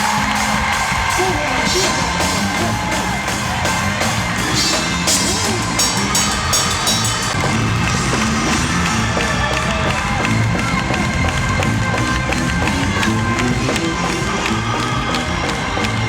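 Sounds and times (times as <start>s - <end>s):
crowd noise: 0.0s - 16.0s
live gospel band with drums: 0.0s - 16.0s.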